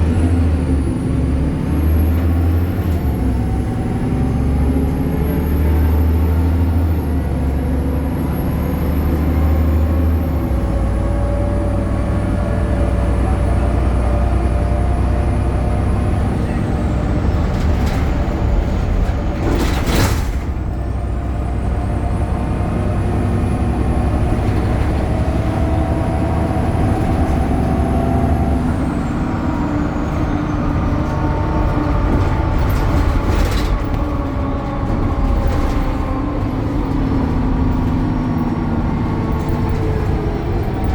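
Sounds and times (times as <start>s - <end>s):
bus engine drone with whine: 0.0s - 40.9s.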